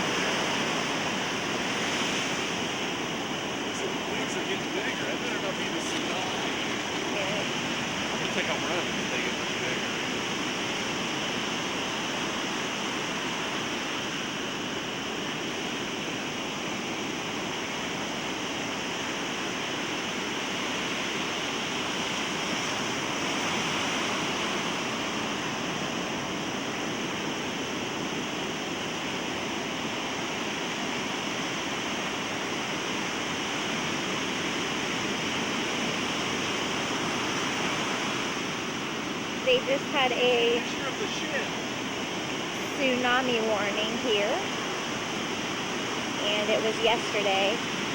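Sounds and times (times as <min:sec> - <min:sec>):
surf breaking on beach: 0:00.0 - 0:47.9.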